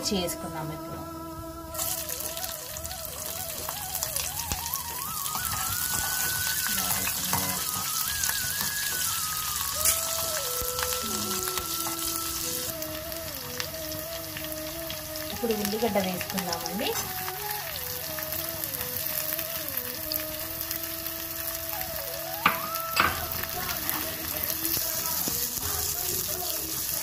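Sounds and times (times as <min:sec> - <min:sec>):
background music: 0:00.0 - 0:27.0
chillies sizzling in hot oil: 0:01.7 - 0:27.0.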